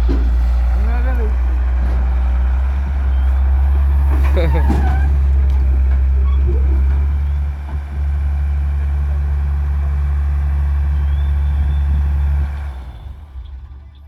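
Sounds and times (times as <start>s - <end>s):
heavy diesel engine drone: 0.0s - 14.0s.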